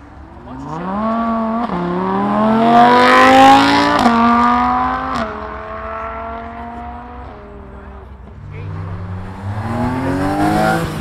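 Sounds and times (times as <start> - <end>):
car accelerating past: 0.6 - 7.7, 8.5 - 11.0.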